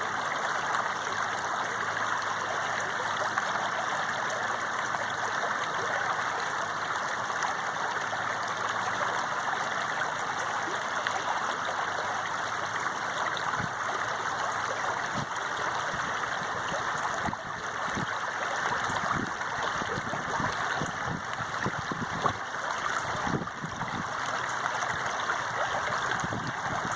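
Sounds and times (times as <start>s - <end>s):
running water flowing: 0.0s - 26.9s
water gurgling: 0.0s - 26.9s.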